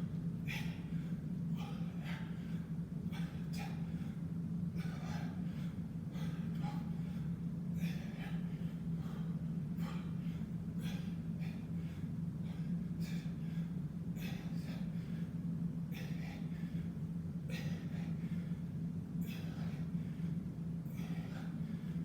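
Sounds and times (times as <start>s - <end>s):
man breathing heavily: 0.0s - 22.0s
steady low hum: 0.0s - 22.0s.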